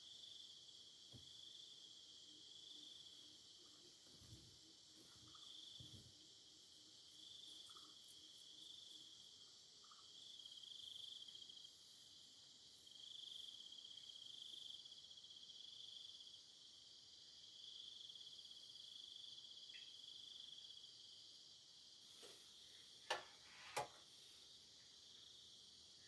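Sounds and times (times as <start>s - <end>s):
background hum of insects: 0.0s - 26.0s
insects trilling: 0.0s - 26.0s.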